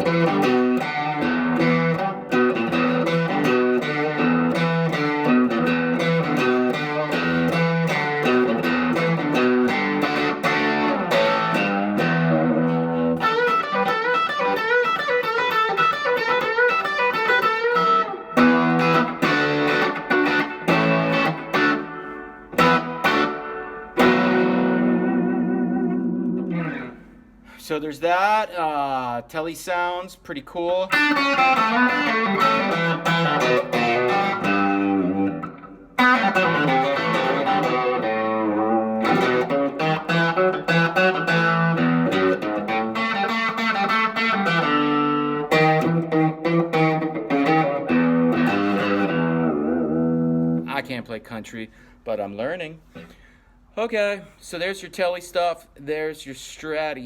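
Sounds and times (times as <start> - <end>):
twangy electric guitar: 0.0 - 27.6, 30.9 - 50.8.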